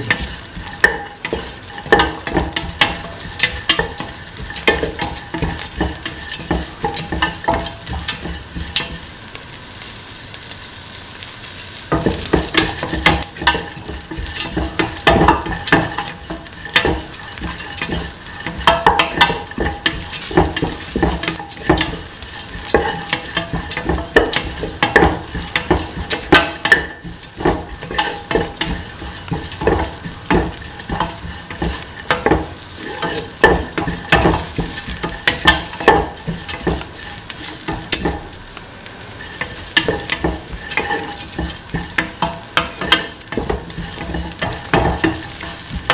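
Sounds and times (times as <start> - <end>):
spatula scraping metal pan: 0.0 - 9.0, 11.9 - 38.3, 39.2 - 45.9
onions sizzling in hot oil: 0.0 - 45.9.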